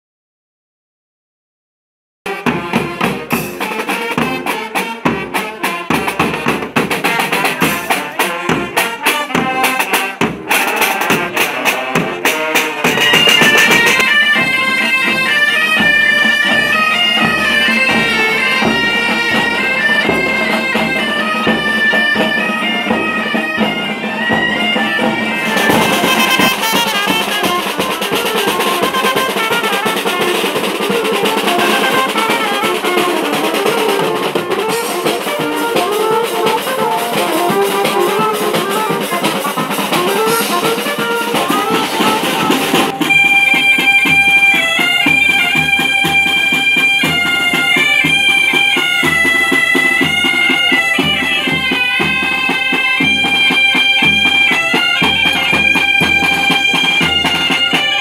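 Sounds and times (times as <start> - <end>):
bagpipe band playing: 2.3 - 58.0
brass band with trumpets: 2.3 - 58.0
rhythmic drumming and percussion: 2.3 - 58.0.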